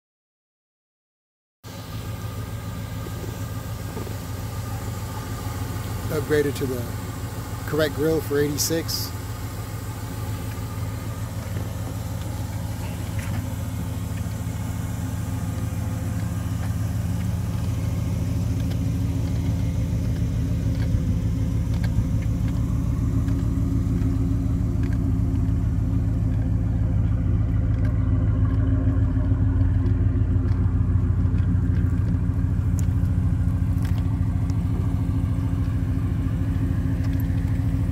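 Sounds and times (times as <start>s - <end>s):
car engine idling: 1.6s - 37.9s.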